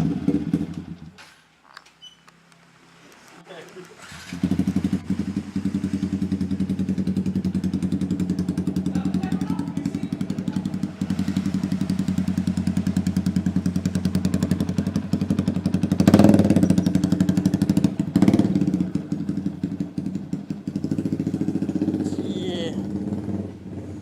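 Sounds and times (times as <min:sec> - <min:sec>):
motorcycle engine idling: 0:00.0 - 0:01.2, 0:04.0 - 0:24.0.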